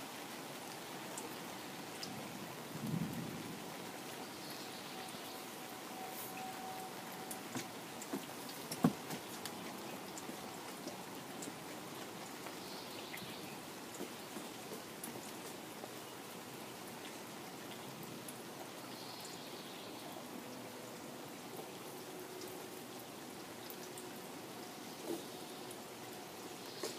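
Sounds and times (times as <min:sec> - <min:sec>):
rain pattering on pond and leaves: 0:00.0 - 0:26.9.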